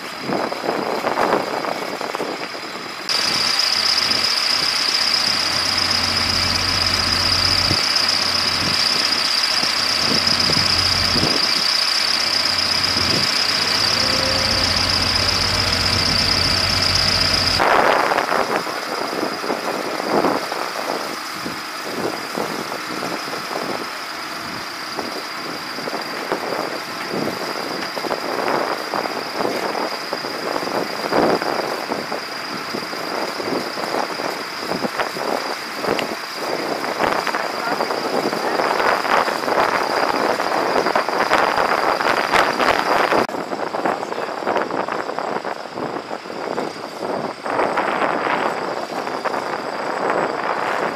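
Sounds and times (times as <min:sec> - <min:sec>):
engine running with high whine: 0:00.0 - 0:50.9.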